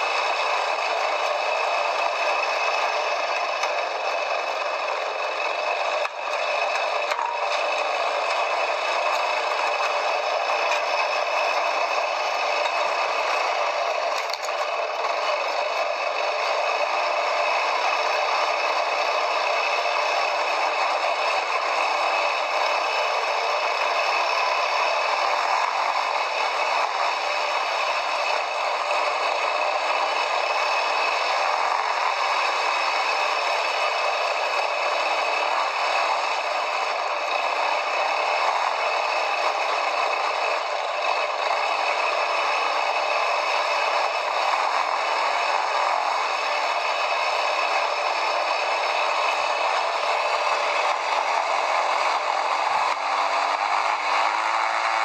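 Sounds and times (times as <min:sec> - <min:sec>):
quad bike rattling off-road: 0:00.0 - 0:55.0.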